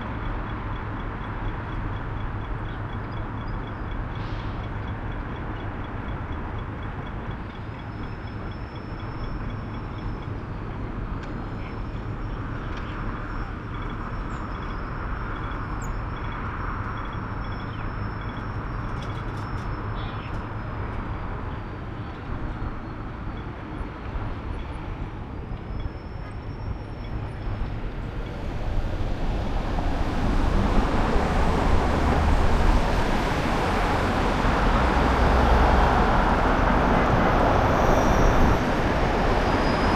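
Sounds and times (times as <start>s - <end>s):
car road and wind rumble: 0.0s - 39.9s.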